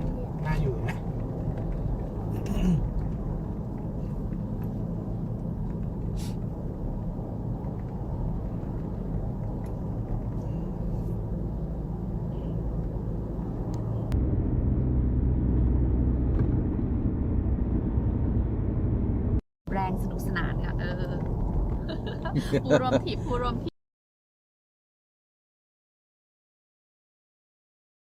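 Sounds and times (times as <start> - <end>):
vehicle rumble: 0.0 - 23.7.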